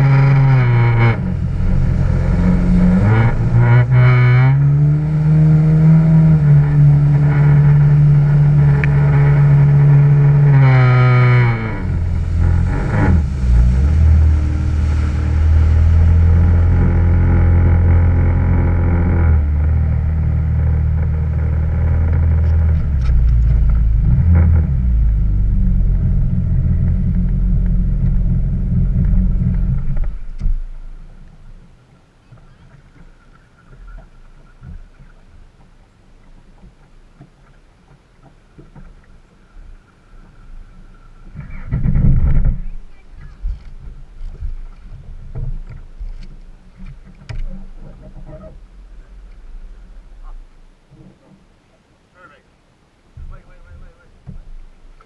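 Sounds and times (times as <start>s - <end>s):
jet ski engine running: 0.0s - 51.5s.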